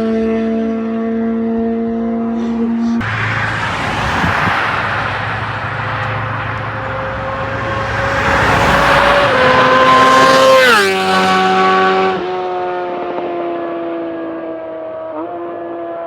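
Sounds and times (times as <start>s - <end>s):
motorcycle passing by fast: 0.0s - 16.0s.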